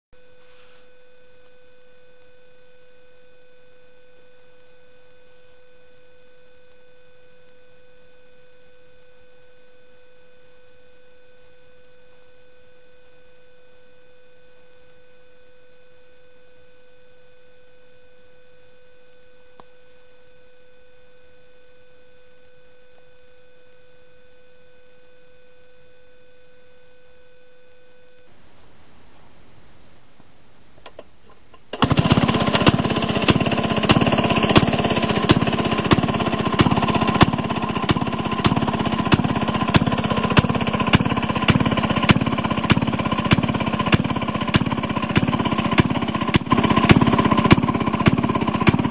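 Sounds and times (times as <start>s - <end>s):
steady multi-tone hum: 0.2s - 48.9s.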